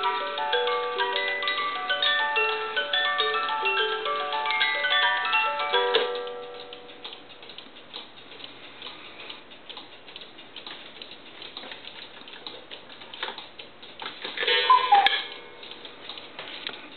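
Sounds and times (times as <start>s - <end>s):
clicks in clock works: 0.0s - 16.9s
clock ticking: 0.0s - 16.9s.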